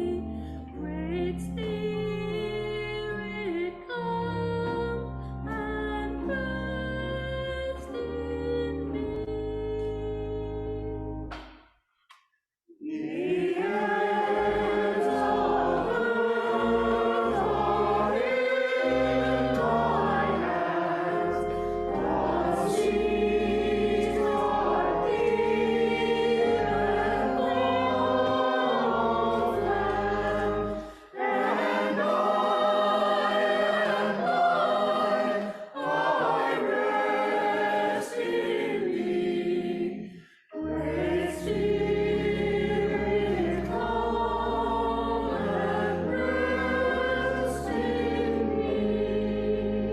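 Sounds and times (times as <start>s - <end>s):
choir singing a hymn: 0.0s - 11.3s, 12.8s - 49.9s.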